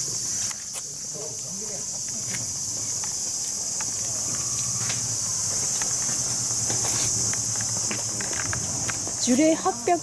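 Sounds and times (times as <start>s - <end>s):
cicadas droning: 0.0s - 10.0s.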